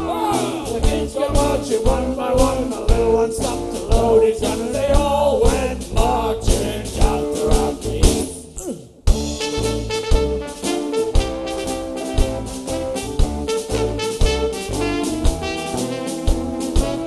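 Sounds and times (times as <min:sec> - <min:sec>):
guitars: 0:00.0 - 0:08.4, 0:09.1 - 0:17.0
drum kit beat: 0:00.0 - 0:17.0.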